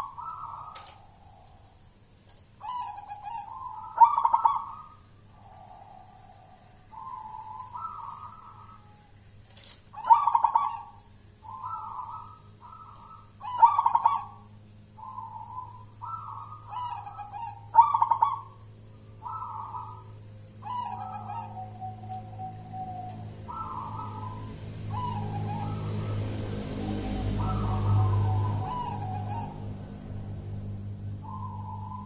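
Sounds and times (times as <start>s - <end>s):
dove cooing: 0.0s - 1.8s, 2.6s - 32.0s.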